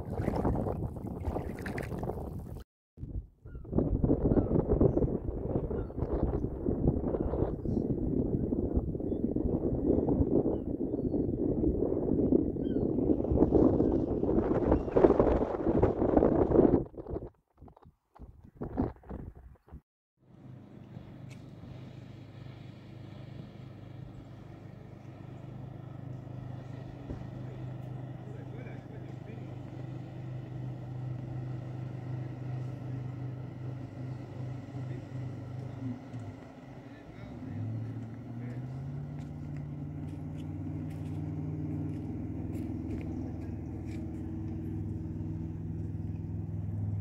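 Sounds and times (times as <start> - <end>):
low motor hum: 0.0 - 17.2, 20.2 - 47.0.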